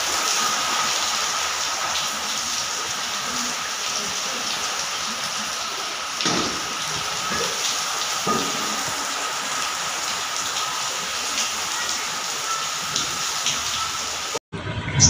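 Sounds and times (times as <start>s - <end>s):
heavy rain on concrete: 0.0s - 14.4s.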